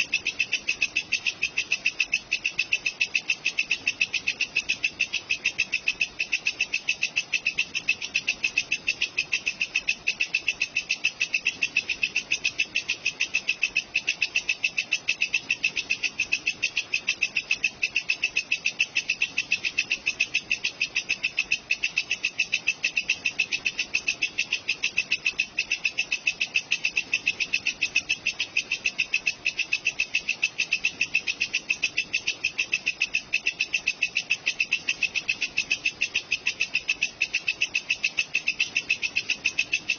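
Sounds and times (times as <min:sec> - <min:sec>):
insect chirping in scratchy pulses: 0:00.0 - 0:39.9.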